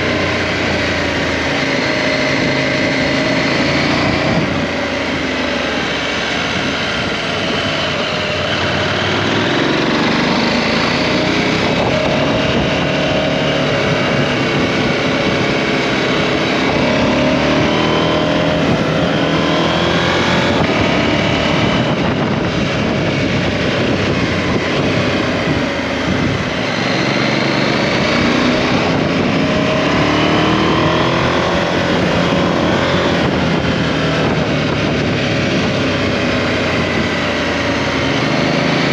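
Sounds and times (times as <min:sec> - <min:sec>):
motorcycle engine pulling through gears: 0:00.0 - 0:38.9
road and wind noise: 0:00.0 - 0:38.9.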